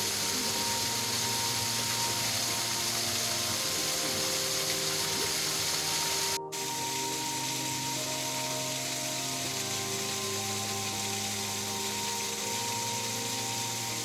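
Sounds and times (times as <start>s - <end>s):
soft background music: 0.0s - 14.0s
waterfall rushing: 0.0s - 14.0s.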